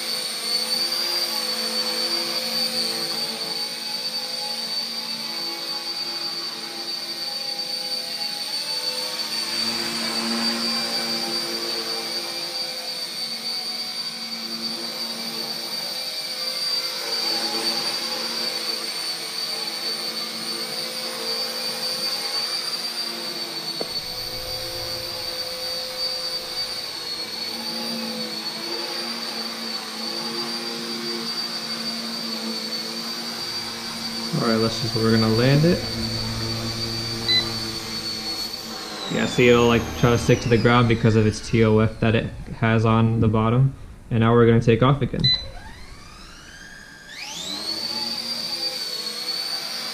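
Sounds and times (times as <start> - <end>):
rotor buzz: 0.0 - 49.9
toy helicopter motor whine: 0.0 - 49.9.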